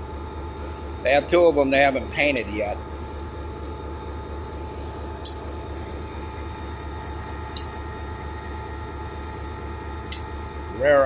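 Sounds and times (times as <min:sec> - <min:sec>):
faint whine: 0:00.0 - 0:11.0
locomotive idling: 0:00.0 - 0:11.0.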